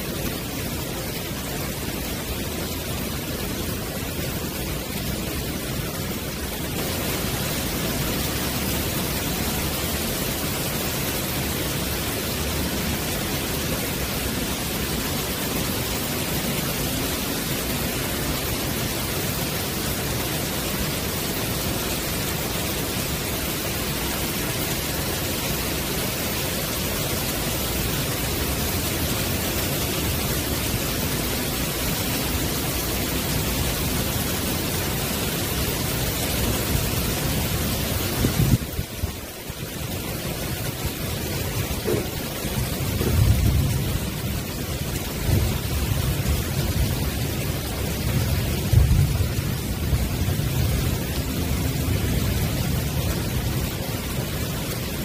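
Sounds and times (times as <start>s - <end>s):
heavy rain on wooden decking: 0.0s - 55.0s.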